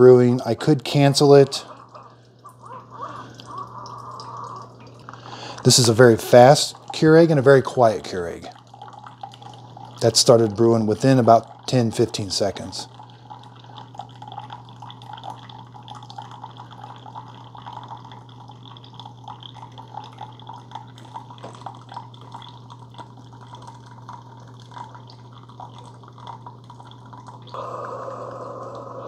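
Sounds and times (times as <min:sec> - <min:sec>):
coffee maker humming: 0:00.0 - 0:29.0
coffee trickling into mug: 0:00.0 - 0:29.0.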